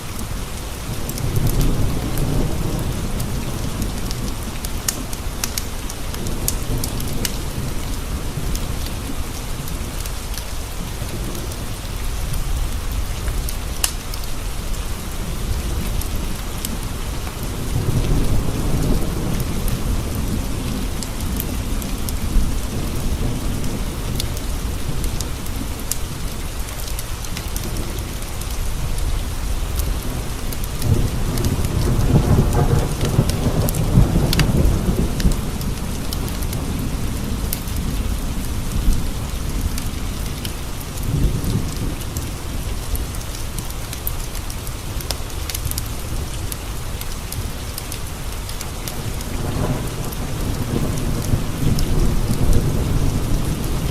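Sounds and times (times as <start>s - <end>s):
rain on window glass: 0.0s - 53.9s
thunder rumbling: 0.0s - 53.9s
wood fire crackling: 3.0s - 18.1s, 20.1s - 53.9s.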